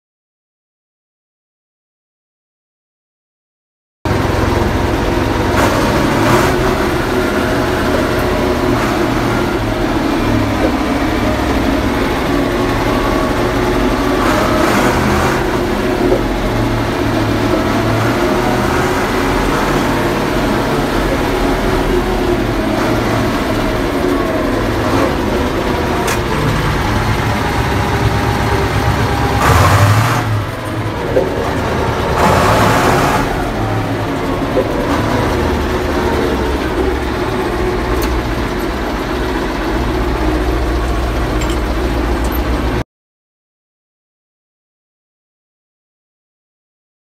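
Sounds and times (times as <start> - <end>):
tractor diesel engine running: 4.1 - 42.8.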